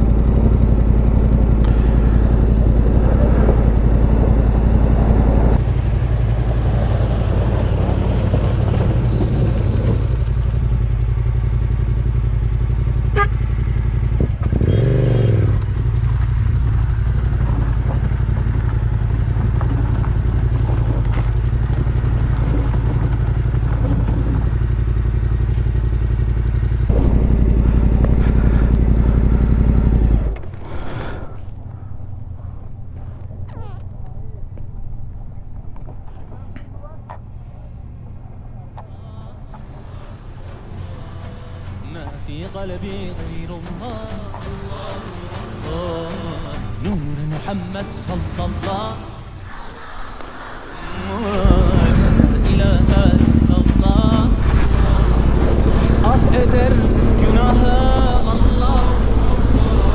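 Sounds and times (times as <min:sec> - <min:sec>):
clatter: 0:00.0 - 0:45.1, 0:51.0 - 0:59.9
motorcycle engine running: 0:00.0 - 0:49.5, 0:51.0 - 0:59.9.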